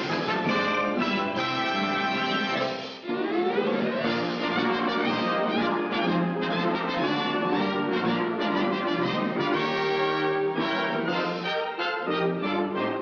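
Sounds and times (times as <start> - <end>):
orchestral cartoon music with brass: 0.0 - 13.0.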